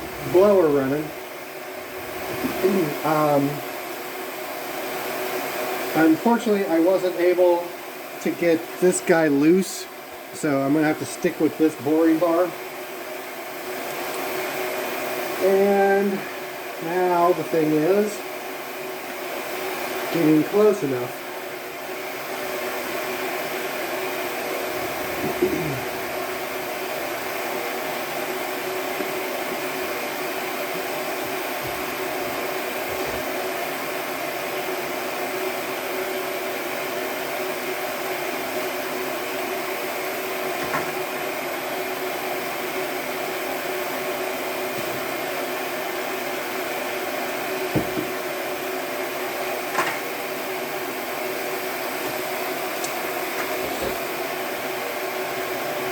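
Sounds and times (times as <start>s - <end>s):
shop blower running: 0.0s - 55.9s.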